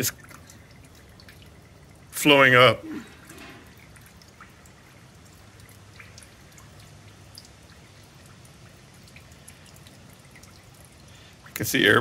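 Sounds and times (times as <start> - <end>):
fuel dripping and popping: 0.0 - 12.0
low steady hum: 0.0 - 12.0.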